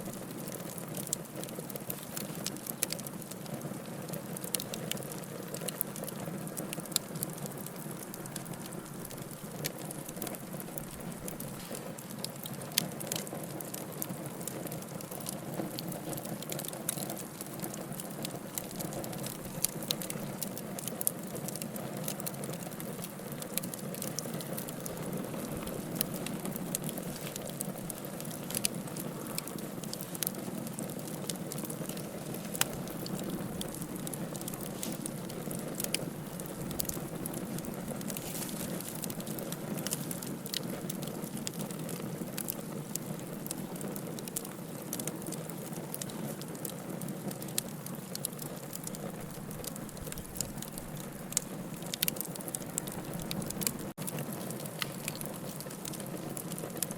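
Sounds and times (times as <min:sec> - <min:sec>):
fire crackling and popping: 0:00.0 - 0:56.9
fire hissing and rumbling: 0:00.0 - 0:56.9.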